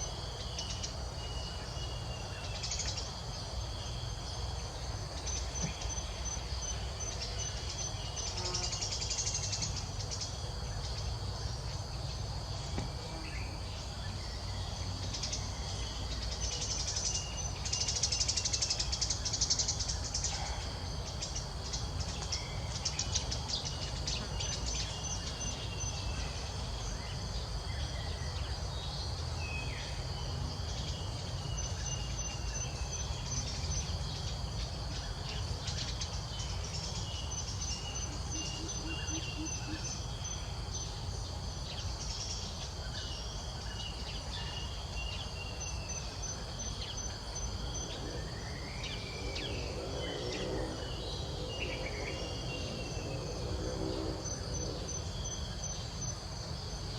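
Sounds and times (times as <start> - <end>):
insects trilling: 0.0 - 56.9.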